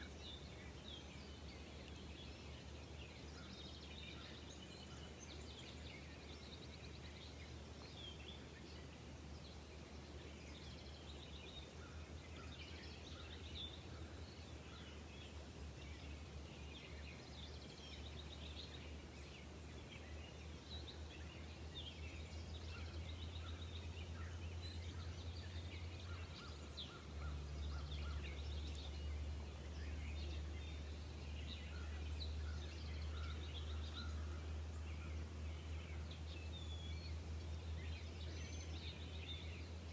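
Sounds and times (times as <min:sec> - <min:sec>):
birds singing and calling: 0:00.0 - 0:39.9.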